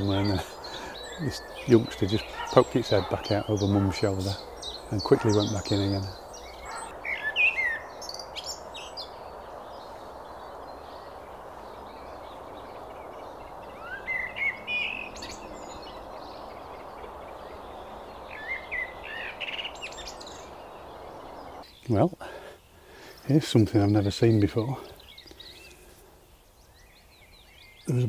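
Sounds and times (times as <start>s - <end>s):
blackbird singing: 0.0s - 28.0s
steady background hiss: 0.0s - 28.0s.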